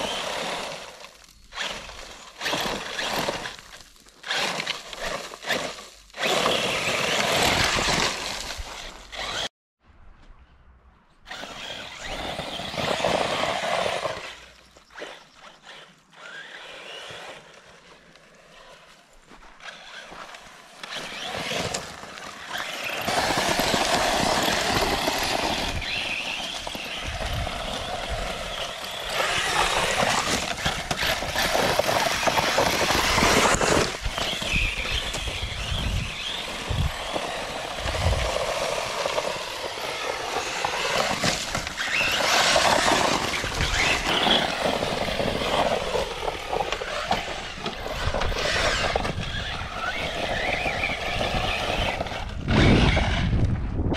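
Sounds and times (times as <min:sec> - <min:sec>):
electric motor whining: 0:00.0 - 0:09.5, 0:19.6 - 0:53.5
tyres crunching on gravel: 0:00.0 - 0:09.5, 0:11.3 - 0:53.4.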